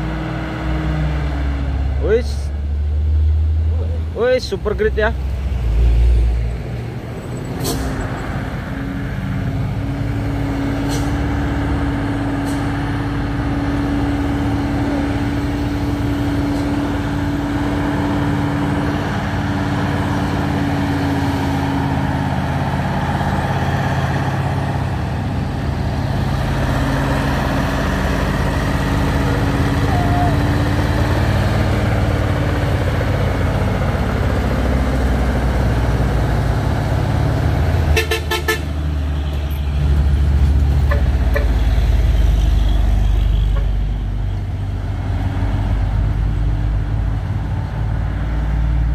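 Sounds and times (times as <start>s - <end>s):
truck diesel engine droning: 0.0s - 48.9s.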